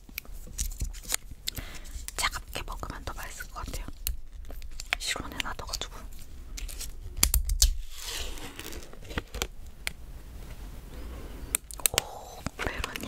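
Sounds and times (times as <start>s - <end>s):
plastic cup clicking and crinkling: 0.0s - 7.8s, 8.6s - 10.0s, 11.5s - 13.0s.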